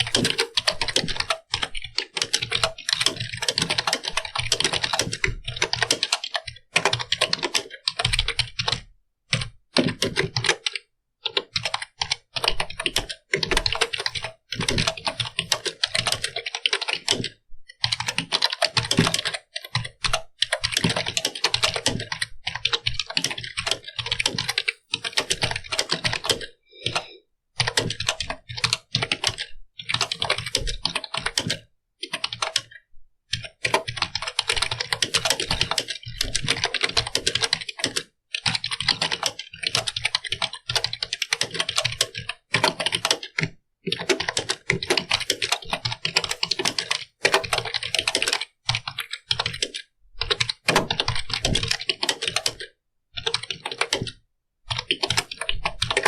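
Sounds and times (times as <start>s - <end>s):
keyboard typing clicks: 9.8s - 56.0s.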